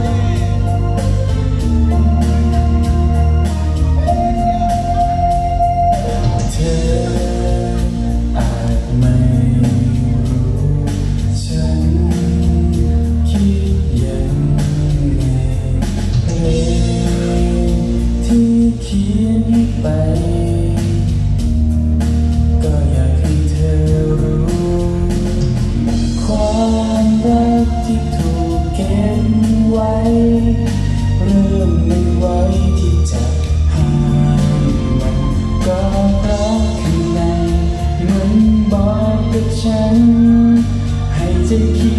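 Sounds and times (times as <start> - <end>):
amplified music with beat: 0.0 - 41.9
man singing into microphone: 4.1 - 21.2, 22.5 - 41.9.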